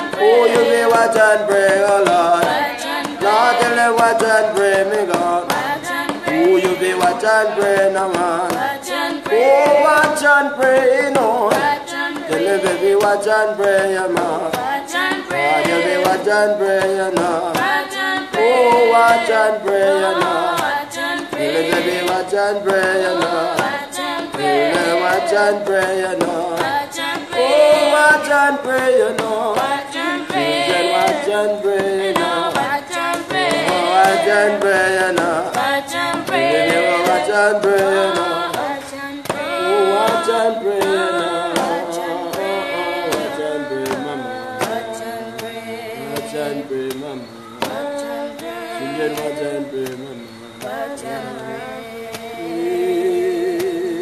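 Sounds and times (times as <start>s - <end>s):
steady percussive beat: 0.0s - 54.0s
voices singing praise song: 0.0s - 54.0s.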